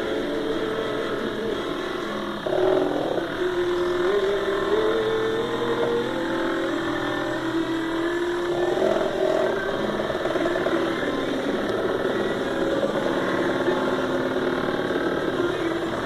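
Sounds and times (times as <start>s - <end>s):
cnc machine motors whining: 0.0s - 16.0s.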